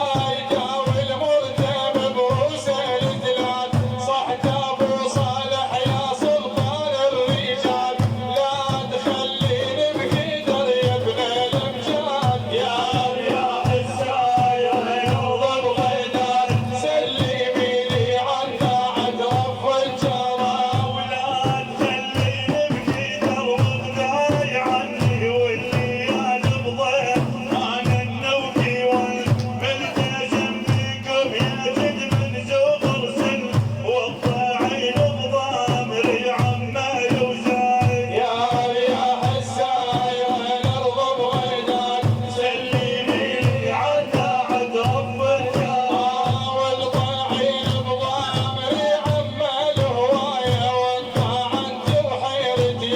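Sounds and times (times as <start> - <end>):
hand drums beating: 0.0 - 52.9.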